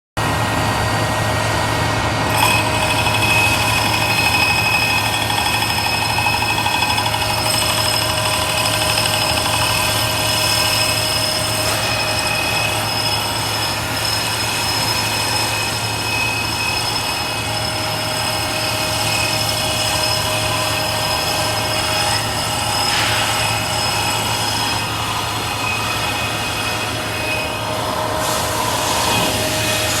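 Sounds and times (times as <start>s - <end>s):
lathe machine hum: 0.2s - 30.0s
lathe whine: 0.2s - 30.0s.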